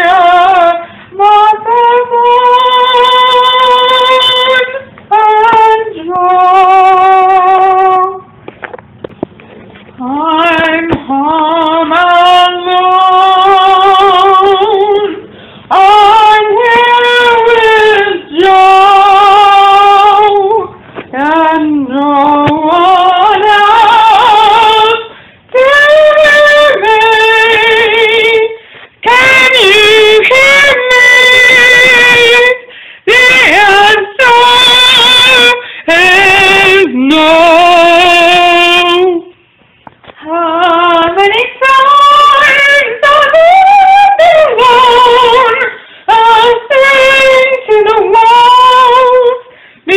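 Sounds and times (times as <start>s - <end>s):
woman singing a cappella: 0.0s - 8.4s, 9.8s - 49.9s.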